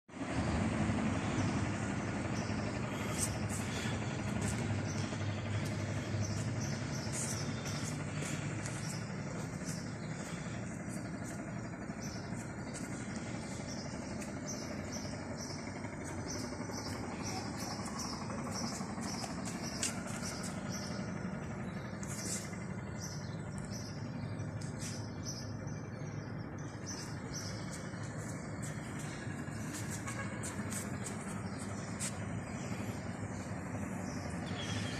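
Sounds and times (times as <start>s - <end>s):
low rumble of distant traffic: 0.1s - 34.9s
small birds chirping: 0.2s - 34.9s.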